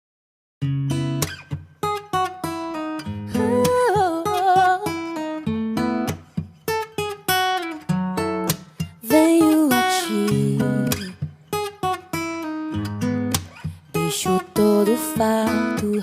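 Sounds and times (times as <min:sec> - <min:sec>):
acoustic guitar strumming: 0:00.6 - 0:16.0.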